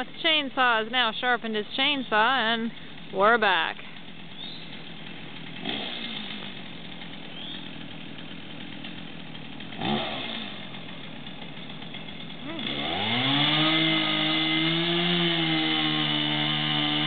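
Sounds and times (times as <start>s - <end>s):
chainsaw engine revving: 2.2s - 17.0s.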